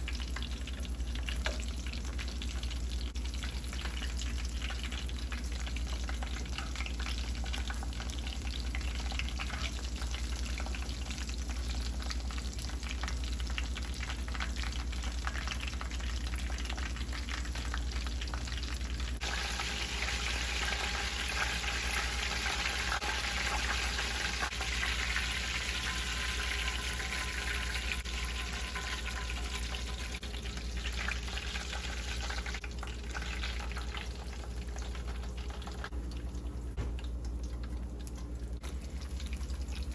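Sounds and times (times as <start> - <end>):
cutlets frying in hot oil: 0.0 - 36.0.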